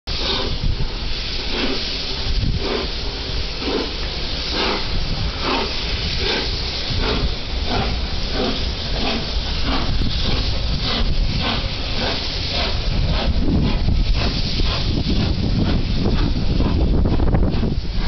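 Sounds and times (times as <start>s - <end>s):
steady hiss and rumble: 0.1s - 18.0s
steam locomotive exhaust beats: 0.1s - 18.0s.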